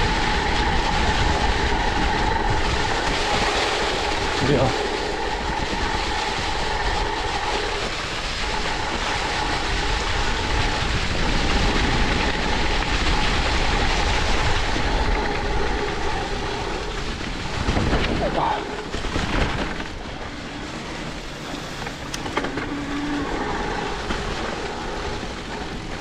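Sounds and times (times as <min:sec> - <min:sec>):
electric motor whine: 0:00.0 - 0:26.0
tyre and wind rumble: 0:00.0 - 0:26.0.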